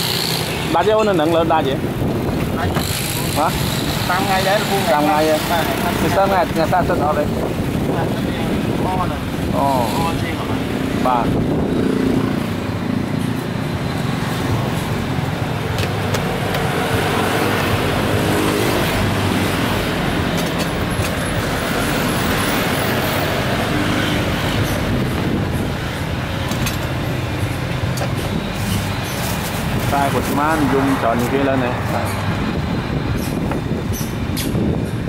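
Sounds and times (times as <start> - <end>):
vehicle engines humming: 0.0 - 35.0.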